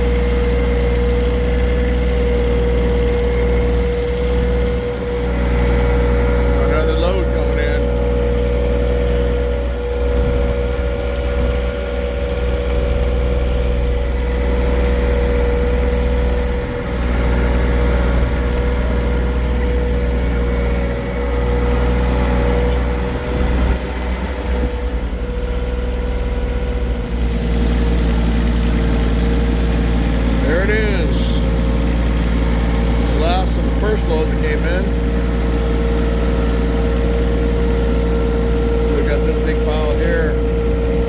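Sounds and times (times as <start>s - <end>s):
small tractor engine running: 0.0s - 41.0s.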